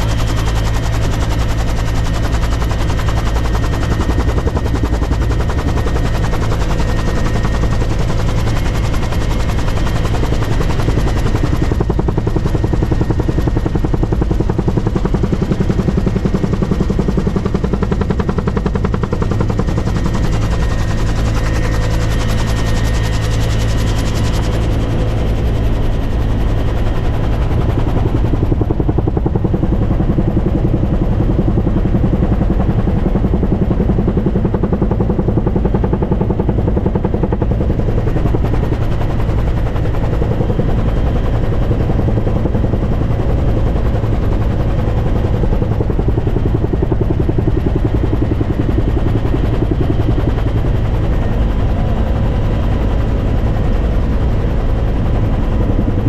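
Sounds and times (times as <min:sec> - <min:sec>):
helicopter engine whine: 0:00.0 - 0:56.0
helicopter rotor beating: 0:00.0 - 0:56.0.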